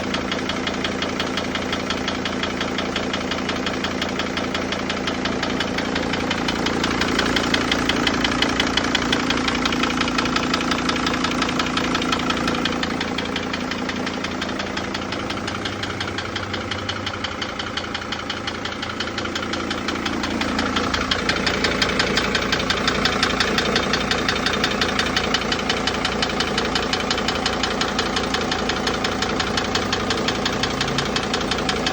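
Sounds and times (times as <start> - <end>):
diesel engine knocking: 0.0 - 31.9.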